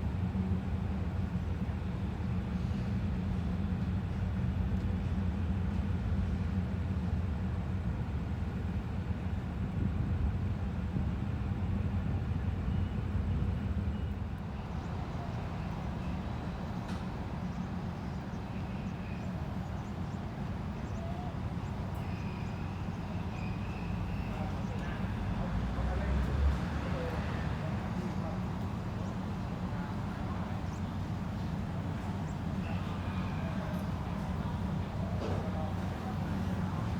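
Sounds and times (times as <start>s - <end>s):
diesel train engine rumble: 0.0s - 36.9s.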